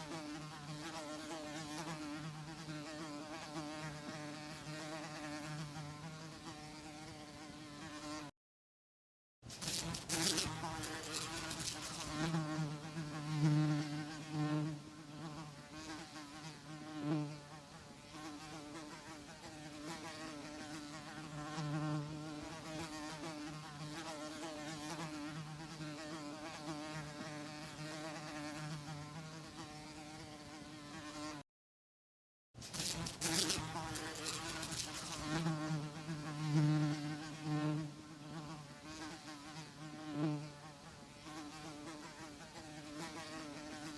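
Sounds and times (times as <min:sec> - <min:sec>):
housefly buzzing: 0:00.0 - 0:08.4, 0:09.5 - 0:31.4, 0:32.6 - 0:43.9.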